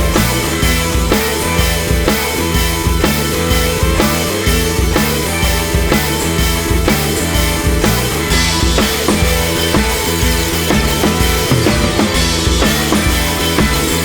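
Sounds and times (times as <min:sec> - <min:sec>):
rock music with drum beat: 0:00.0 - 0:14.0.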